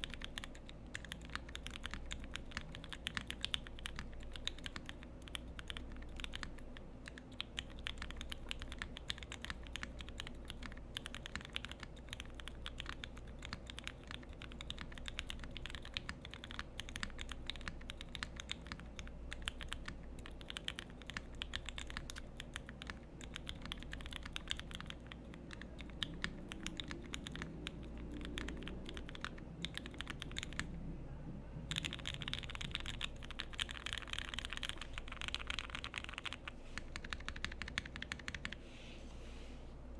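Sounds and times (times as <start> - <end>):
fast typing on mechanical keyboard: 0.0 - 30.7, 31.7 - 38.6.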